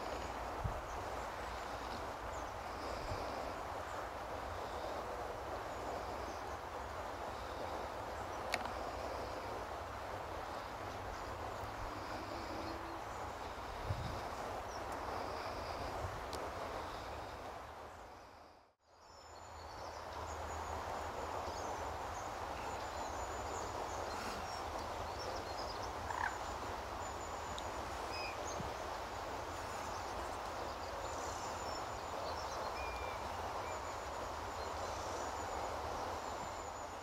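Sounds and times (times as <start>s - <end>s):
outdoor background rush: 0.0s - 37.0s.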